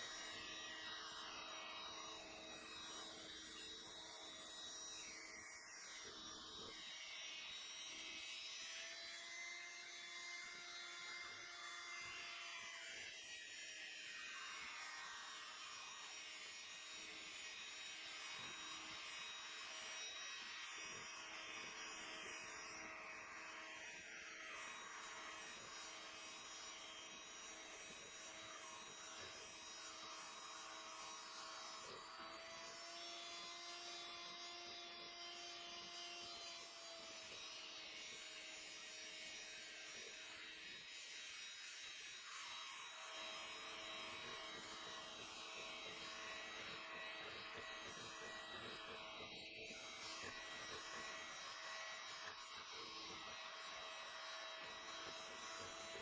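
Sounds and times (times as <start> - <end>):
small electric motor humming: 0.0 - 56.0.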